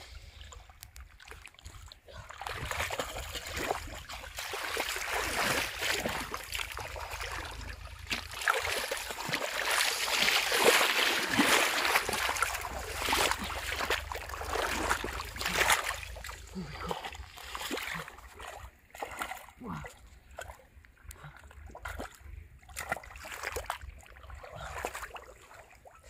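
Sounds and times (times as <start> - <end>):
muddy water splashing and sloshing: 0.0 - 26.0.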